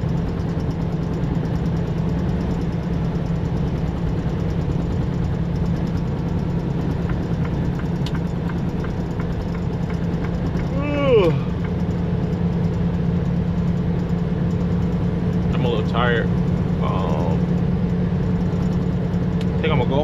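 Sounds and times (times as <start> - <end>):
road noise: 0.0 - 20.0
truck diesel engine running: 0.0 - 20.0.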